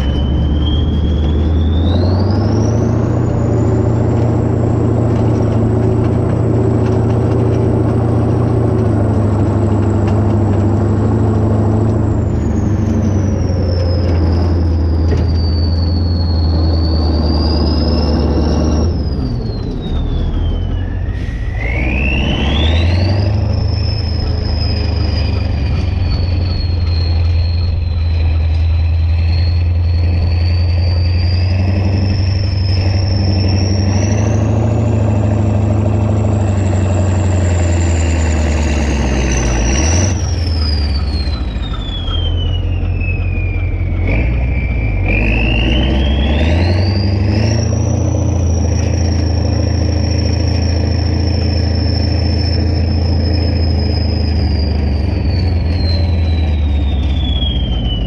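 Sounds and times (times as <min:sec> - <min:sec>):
high engine whistle: 0:00.0 - 0:58.0
tractor diesel engine droning: 0:00.0 - 0:58.0.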